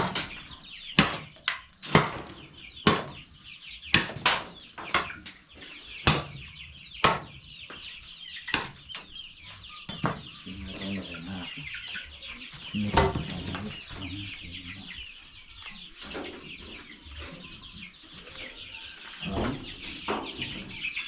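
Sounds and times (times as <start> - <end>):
chicks cheeping: 0.0 - 21.0.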